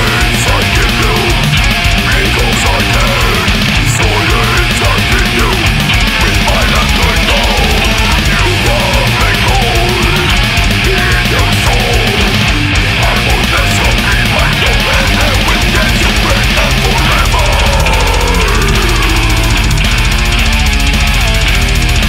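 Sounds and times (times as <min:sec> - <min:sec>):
death metal music: 0:00.0 - 0:22.0.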